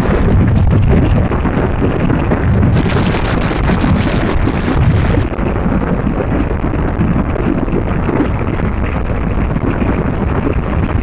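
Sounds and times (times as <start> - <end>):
vehicle road and engine rumble: 0.0 - 11.0
wind buffeting microphone: 0.0 - 11.0.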